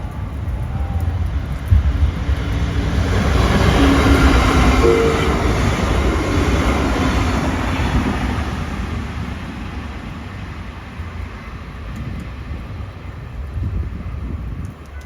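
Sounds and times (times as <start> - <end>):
passenger train passing: 0.0 - 15.0.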